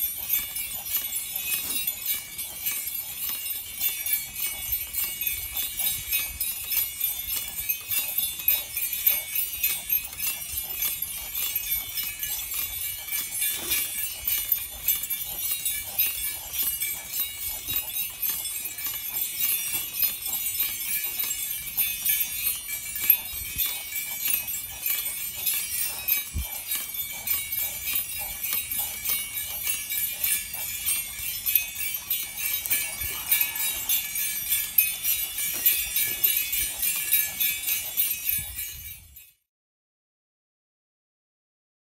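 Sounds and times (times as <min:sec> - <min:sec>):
harness bells jingling: 0:00.0 - 0:39.5.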